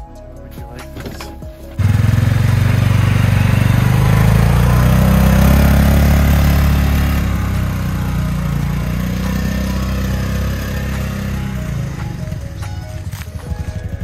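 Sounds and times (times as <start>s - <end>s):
utility vehicle engine driving off: 0.8s - 14.0s.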